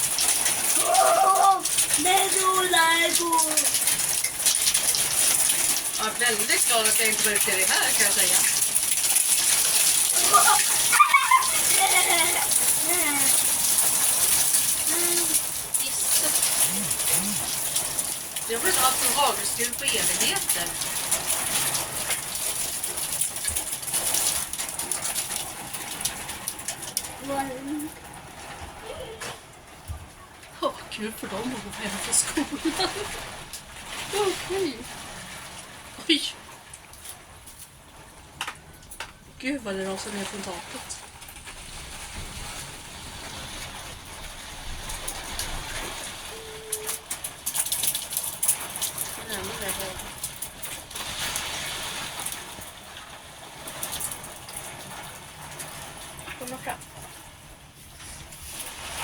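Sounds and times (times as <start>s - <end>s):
heavy rain hissing: 0.0s - 29.8s, 30.6s - 59.0s
hailstones pattering: 0.0s - 59.0s
water pouring off roof: 0.0s - 59.0s.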